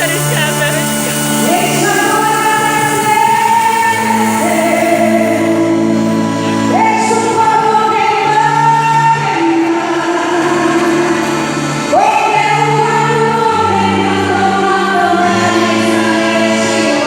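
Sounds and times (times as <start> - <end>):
gospel choir singing: 0.0 - 17.0.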